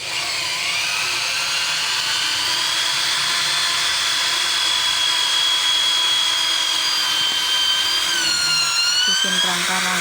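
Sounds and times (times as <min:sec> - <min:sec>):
electric drill whining: 0:00.0 - 0:10.0.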